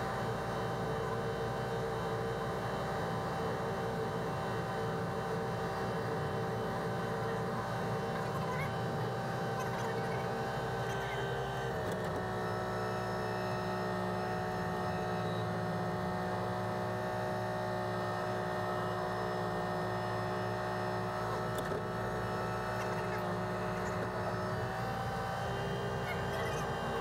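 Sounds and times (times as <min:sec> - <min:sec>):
tractor engine hum in cab: 0:00.0 - 0:27.0.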